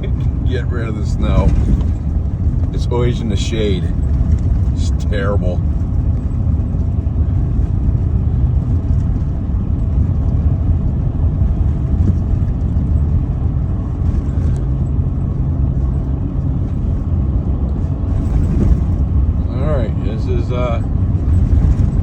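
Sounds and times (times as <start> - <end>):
car engine and tyre road noise: 0.0 - 22.0.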